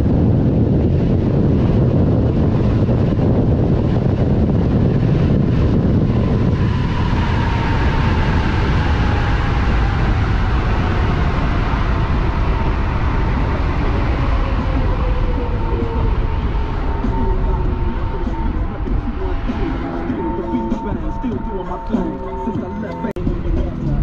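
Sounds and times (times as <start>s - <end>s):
road noise: 0.0s - 24.0s
wind rush on microphone: 0.0s - 24.0s.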